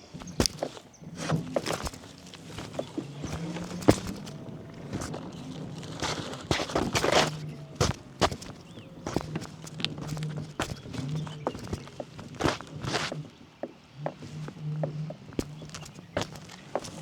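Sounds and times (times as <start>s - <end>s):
bicycle rattling on rough lane: 0.0s - 17.0s.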